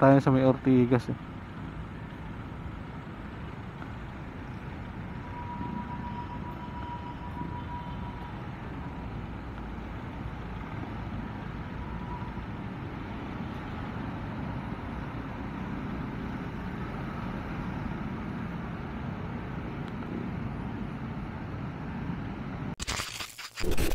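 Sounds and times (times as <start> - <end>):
road and traffic noise: 0.0 - 23.0.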